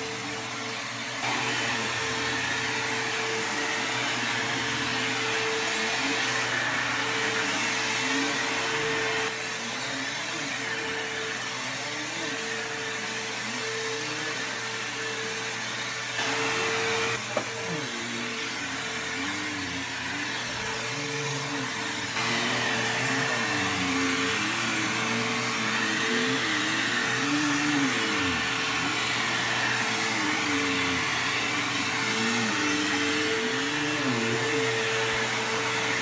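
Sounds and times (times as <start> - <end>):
vacuum cleaner running: 0.0 - 36.0.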